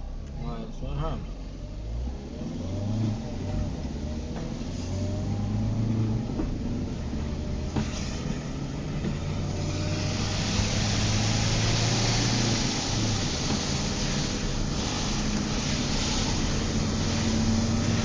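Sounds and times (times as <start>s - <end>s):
car engine drone: 0.0s - 18.0s
rain and wet road hiss: 2.0s - 18.0s.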